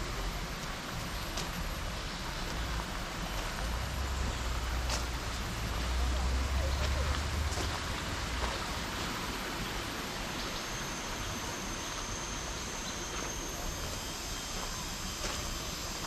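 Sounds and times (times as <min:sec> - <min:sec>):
outdoor ambient hiss: 0:00.0 - 0:16.0.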